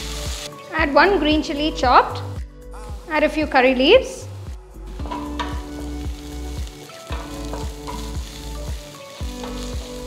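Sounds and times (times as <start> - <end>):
vegetables sizzling in oil: 0.0 - 2.3, 3.0 - 10.0.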